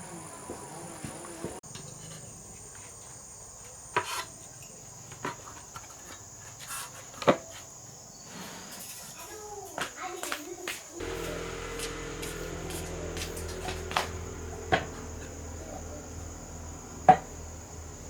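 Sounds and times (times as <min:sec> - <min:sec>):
insects chirring: 0:00.0 - 0:09.3, 0:11.0 - 0:18.0.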